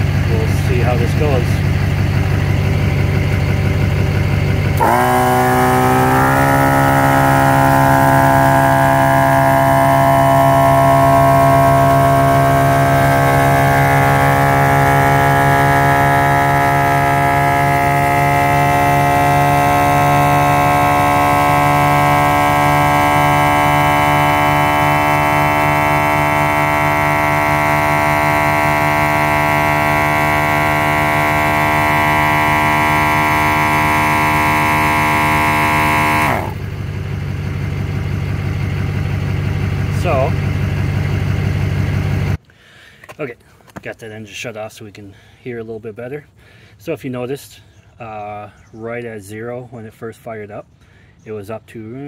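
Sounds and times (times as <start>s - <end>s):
air compressor running: 0.0s - 42.4s
vehicle engine idling: 0.0s - 42.4s.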